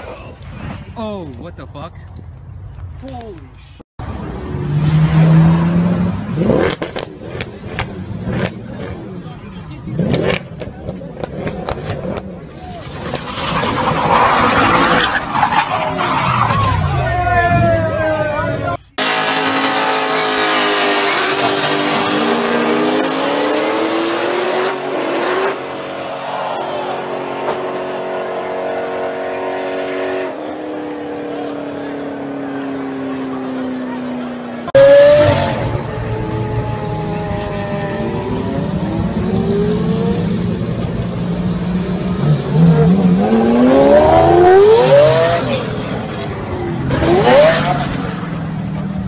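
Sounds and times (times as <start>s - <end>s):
drag racing cars accelerating: 4.0s - 49.0s.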